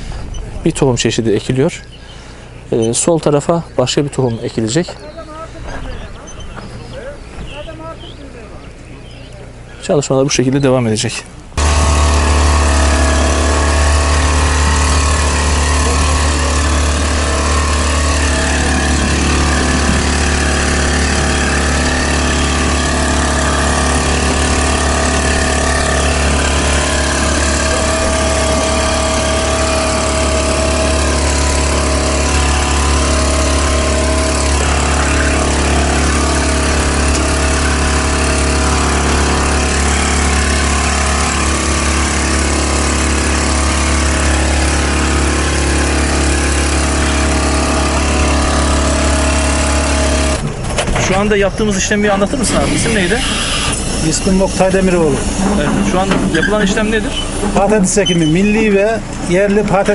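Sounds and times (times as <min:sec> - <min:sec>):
tractor engine drone: 0:00.0 - 0:59.9.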